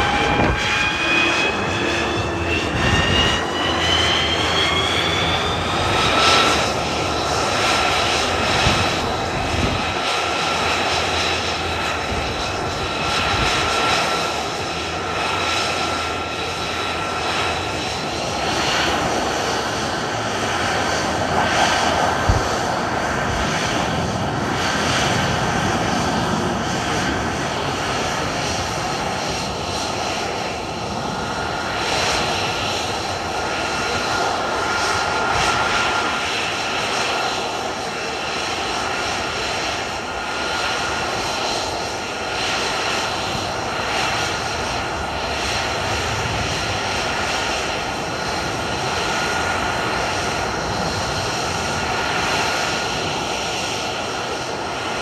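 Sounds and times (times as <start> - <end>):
high-pitched turbine whine: 0.0 - 55.0
jet engine idling rush: 0.0 - 55.0.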